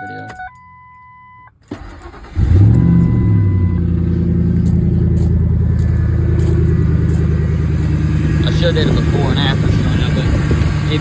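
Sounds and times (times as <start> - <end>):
truck engine starting and idling: 0.0 - 11.0.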